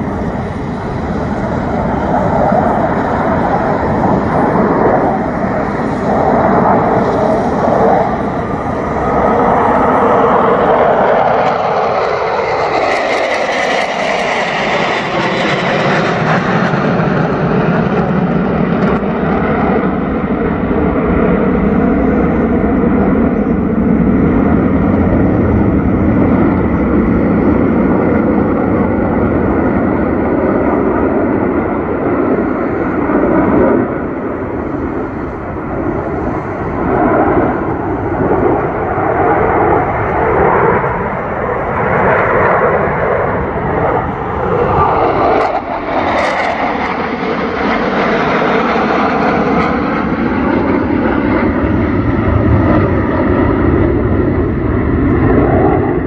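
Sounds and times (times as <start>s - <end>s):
faint jet whine: 0.0s - 56.0s
jet engines roaring overhead: 0.0s - 56.0s.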